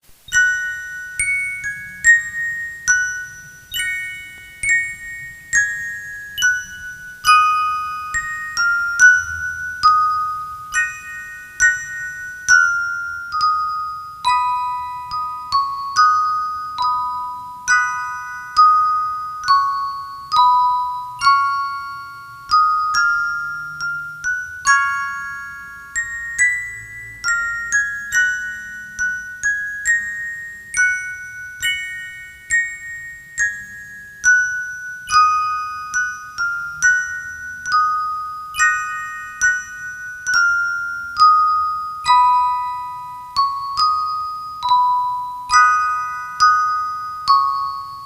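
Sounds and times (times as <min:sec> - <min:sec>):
slow bell-like melody: 0:00.1 - 0:48.0.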